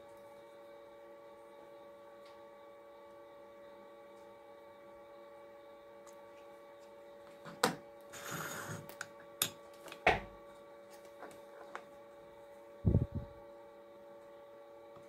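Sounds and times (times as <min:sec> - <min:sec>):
steady mains hum: 0:00.0 - 0:15.0.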